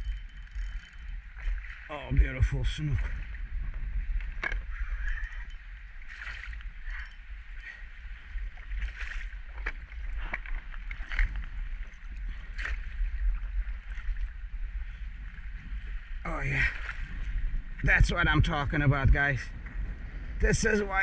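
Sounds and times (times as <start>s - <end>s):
water lapping: 0.0s - 17.4s
steady low rumble: 0.0s - 21.0s.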